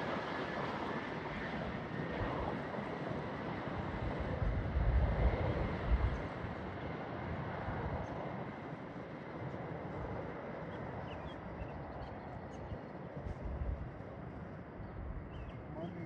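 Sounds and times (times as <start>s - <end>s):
jet engine rumble: 0.0s - 16.0s
wind buffeting microphone: 0.0s - 16.0s.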